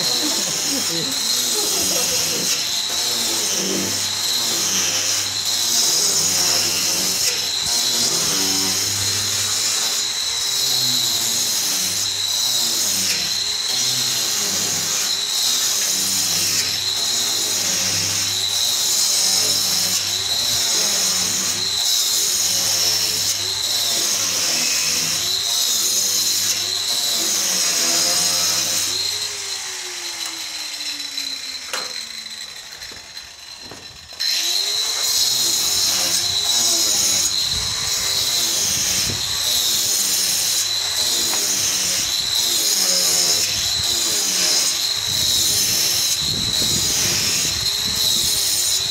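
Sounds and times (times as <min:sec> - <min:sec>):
angle grinder cutting concrete: 0:00.0 - 0:48.9.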